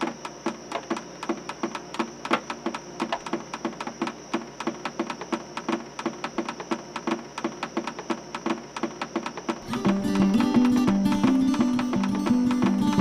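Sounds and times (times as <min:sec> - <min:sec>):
music with clicking beat: 0:00.0 - 0:13.0.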